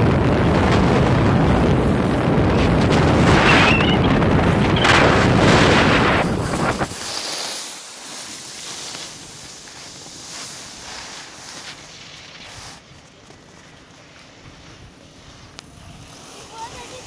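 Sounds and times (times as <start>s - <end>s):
wind buffeting microphone: 0.0s - 7.2s, 8.7s - 17.0s.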